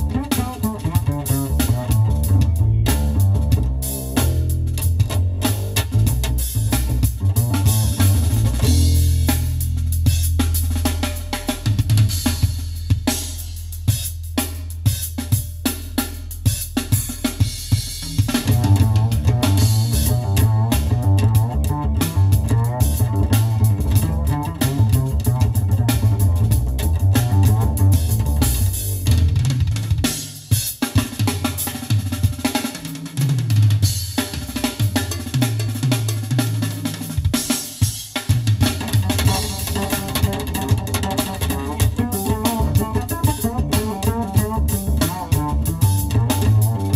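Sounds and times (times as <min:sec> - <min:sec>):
busy bass line: 0:00.0 - 0:30.1, 0:38.5 - 0:46.9
jazz fusion music: 0:00.0 - 0:30.1, 0:38.4 - 0:46.9
drum kit with rimshots: 0:00.0 - 0:46.9.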